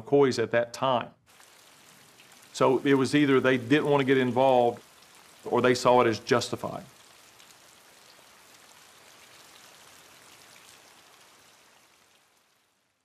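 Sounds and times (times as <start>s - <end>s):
rain pattering on river: 1.3s - 13.0s.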